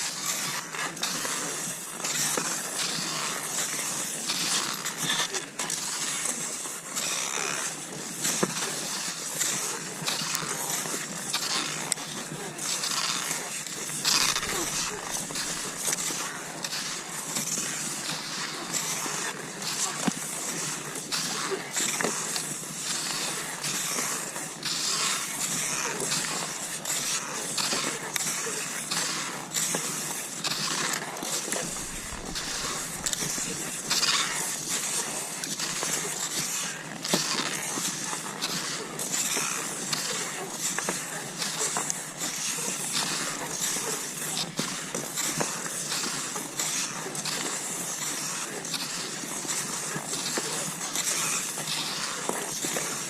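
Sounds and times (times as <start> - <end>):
skis swishing over snow: 0.0 - 53.0
ski pole plants: 0.2 - 53.0.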